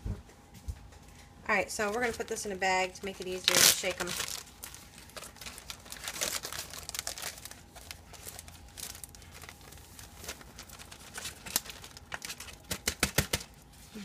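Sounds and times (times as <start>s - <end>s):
plastic bag crinkling: 1.5s - 13.7s.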